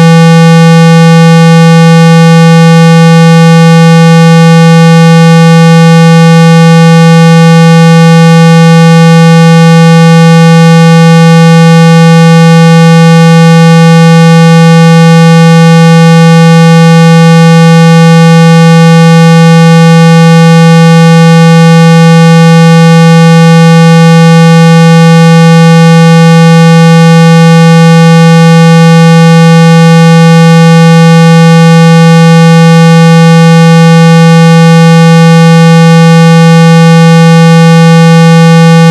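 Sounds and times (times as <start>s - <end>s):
loud buzzy steady tone: 0.0s - 38.9s.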